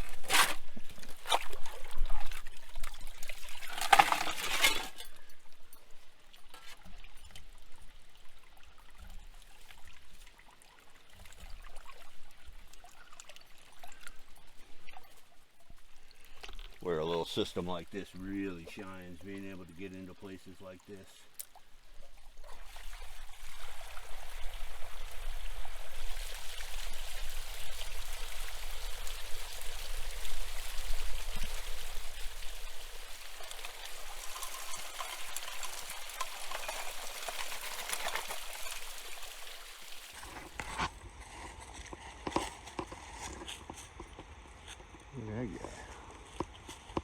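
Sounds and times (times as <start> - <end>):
water pouring and splashing: 0.0 - 43.8.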